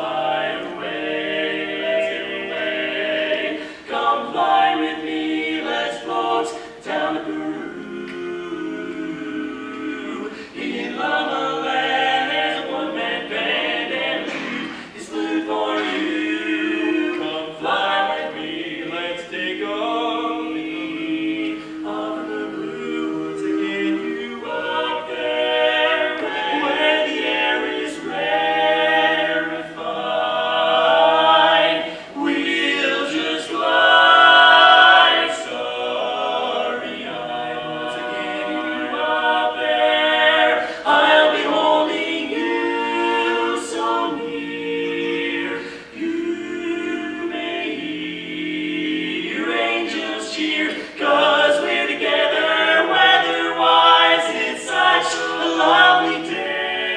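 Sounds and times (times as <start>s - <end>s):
male vocal quartet singing: 0.0s - 56.9s.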